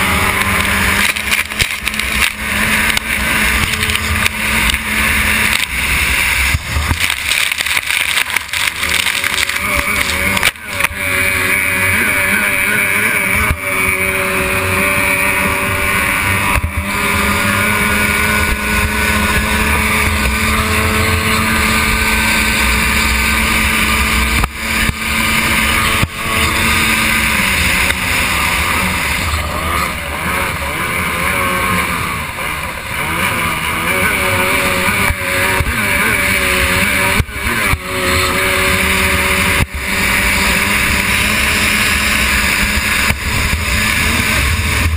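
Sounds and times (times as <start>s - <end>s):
outboard racing engine running hard: 0.0s - 44.9s.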